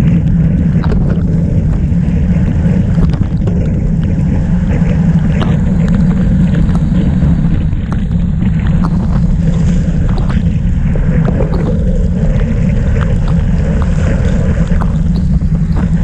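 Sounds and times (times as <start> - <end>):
raindrops ticking on camera: 0.0 - 16.0
wind buffeting microphone: 0.0 - 16.0.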